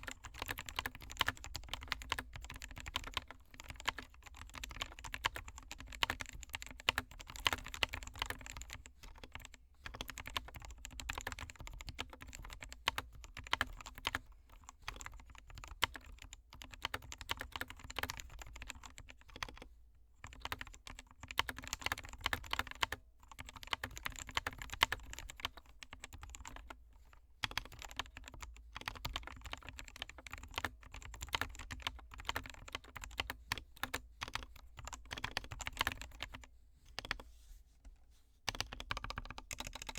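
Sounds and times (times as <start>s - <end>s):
keyboard typing: 0.0s - 14.2s, 14.9s - 19.6s, 20.3s - 26.8s, 27.4s - 37.3s, 38.5s - 39.9s.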